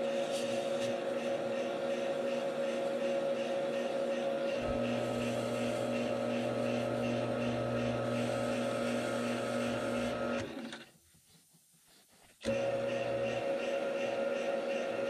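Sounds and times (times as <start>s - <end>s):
lathe motor whine: 0.0s - 10.7s, 12.4s - 15.0s.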